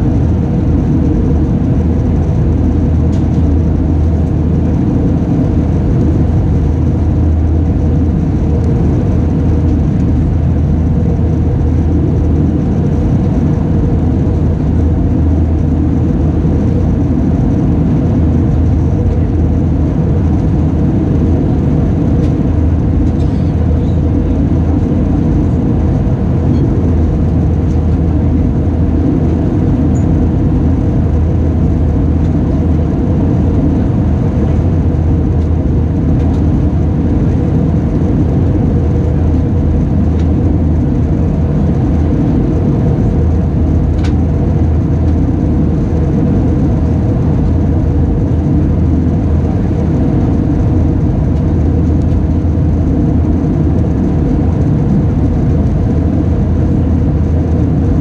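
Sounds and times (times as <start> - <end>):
airplane engine drone: 0.0 - 58.0
low hum: 0.0 - 58.0.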